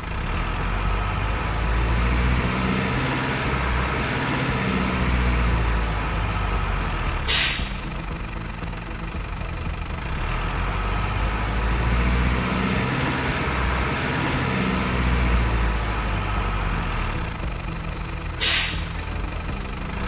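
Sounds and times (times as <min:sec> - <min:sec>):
model truck motor hum: 0:00.0 - 0:20.0.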